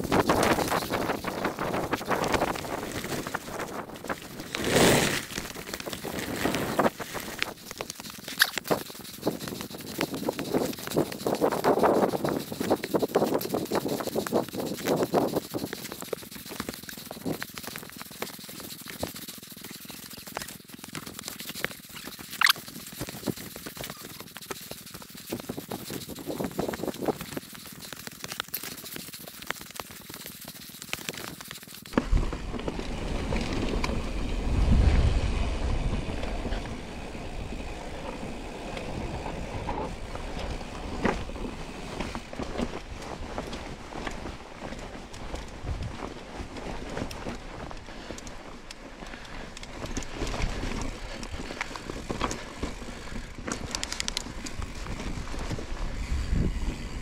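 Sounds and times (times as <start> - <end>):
bike clicks and rattles: 0.0 - 57.0
bike tyres on loose gravel: 0.0 - 57.0.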